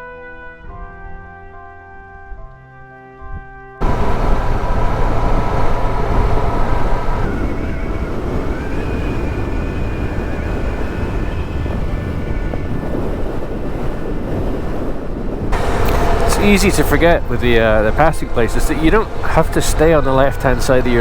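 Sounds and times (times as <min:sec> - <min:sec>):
wind buffeting and engine rumble: 0:03.8 - 0:21.0.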